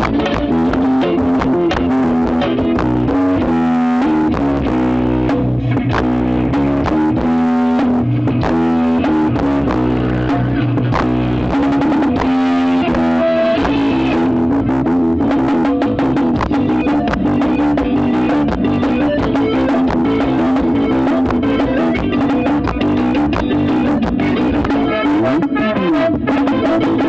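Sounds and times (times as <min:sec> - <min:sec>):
loud music with guitar and bass: 0:00.0 - 0:27.0.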